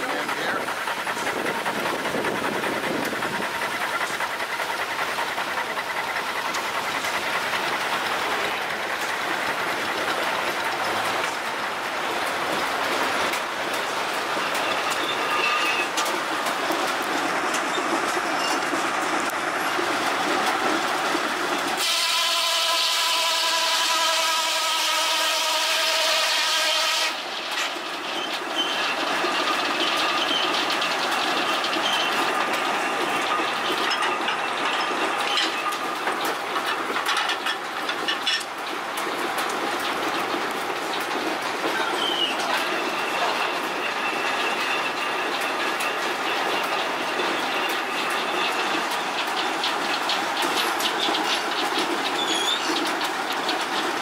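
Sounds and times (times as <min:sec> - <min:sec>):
clattering log carriage: 0:00.0 - 0:22.0, 0:27.2 - 0:54.0.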